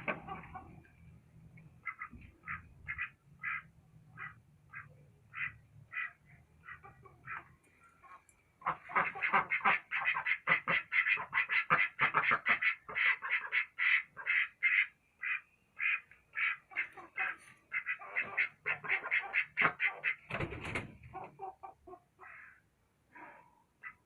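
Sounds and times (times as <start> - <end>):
ducks quacking: 0.0 - 1.0, 1.7 - 20.3, 21.1 - 22.6, 23.8 - 24.0.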